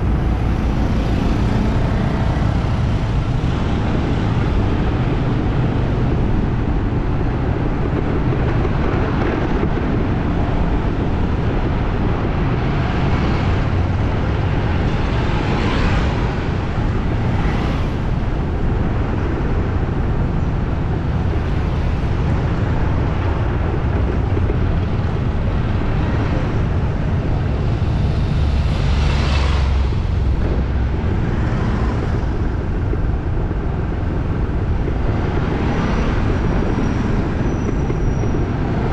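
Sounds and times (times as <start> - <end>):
heavy traffic rumble: 0.0 - 38.9
vehicles passing close: 0.0 - 38.9.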